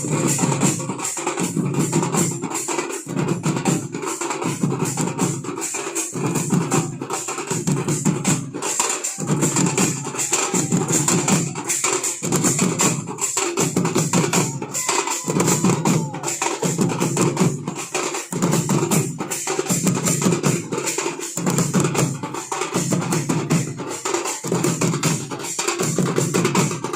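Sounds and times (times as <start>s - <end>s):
fast dense drumming: 0.0s - 26.9s.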